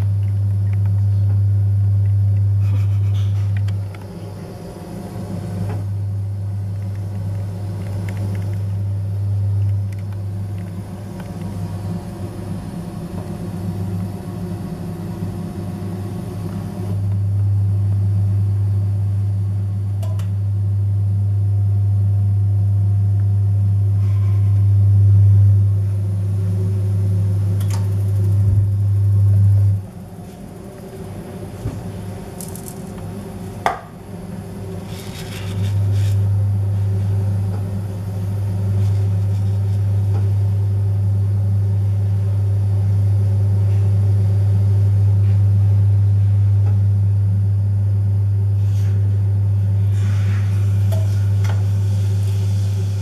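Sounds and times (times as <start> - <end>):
loud low electrical hum: 0.0 - 53.0.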